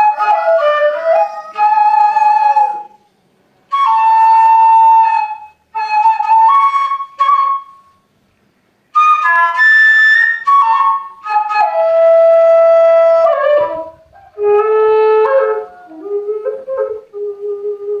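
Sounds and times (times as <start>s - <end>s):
bamboo flute melody: 0.0s - 8.1s, 8.9s - 18.0s.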